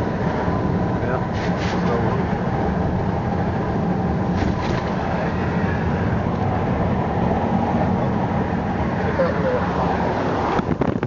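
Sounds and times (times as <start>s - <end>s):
car engine and tyres on wet road: 0.0s - 11.0s.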